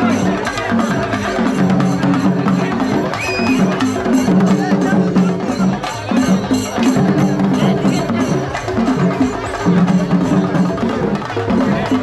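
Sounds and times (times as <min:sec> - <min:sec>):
drums struck in fast beat: 0:00.0 - 0:12.0.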